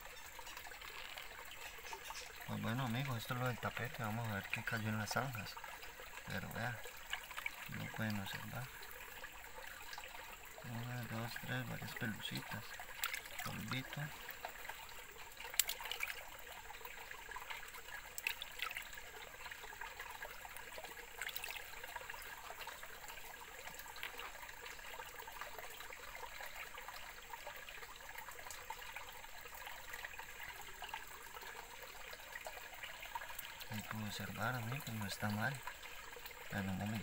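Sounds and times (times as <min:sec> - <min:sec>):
water swishing in a pan: 0:00.0 - 0:37.0.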